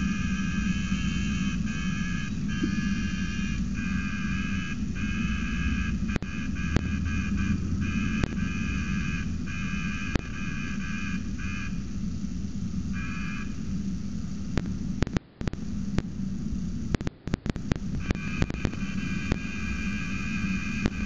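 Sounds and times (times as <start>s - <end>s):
cicada buzzing: 0.0s - 14.6s, 17.8s - 21.0s
microphone hiss and hum: 0.0s - 21.0s.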